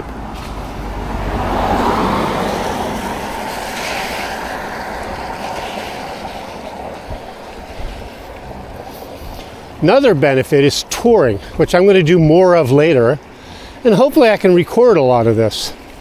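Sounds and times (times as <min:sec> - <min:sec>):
vehicle passing with rushing noise: 0:00.0 - 0:13.9.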